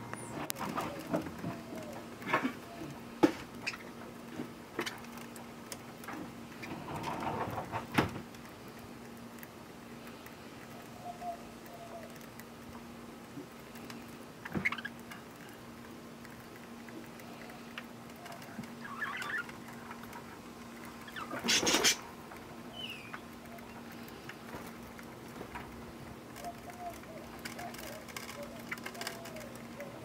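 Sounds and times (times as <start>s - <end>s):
birds pecking and husking seed: 0.0s - 30.0s
faint steady hum: 0.0s - 30.0s.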